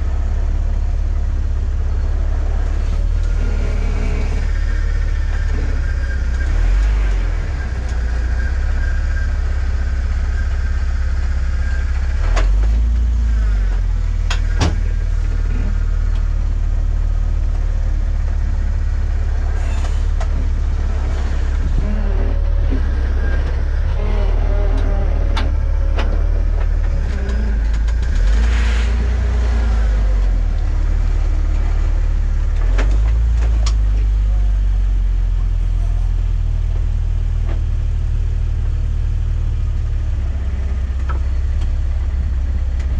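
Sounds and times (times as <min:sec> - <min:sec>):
vehicle engine rumble: 0:00.0 - 0:42.9.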